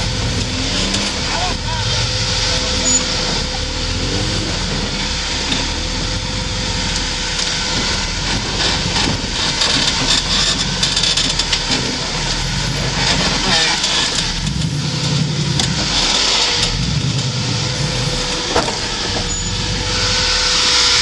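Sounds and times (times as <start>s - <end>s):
off-road vehicle engine: 0.0s - 21.0s.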